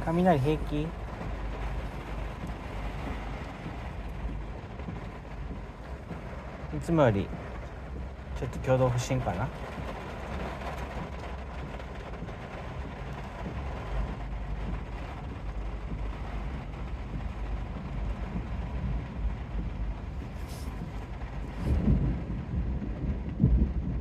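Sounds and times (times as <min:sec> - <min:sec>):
heavy rain rushing: 0:00.0 - 0:24.0
low rumble: 0:00.0 - 0:24.0.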